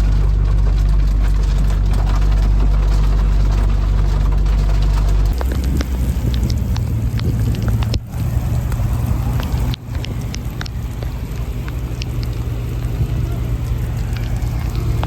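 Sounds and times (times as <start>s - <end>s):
rain drops ticking: 0.0s - 15.0s
steady low rain rumble: 0.0s - 15.0s.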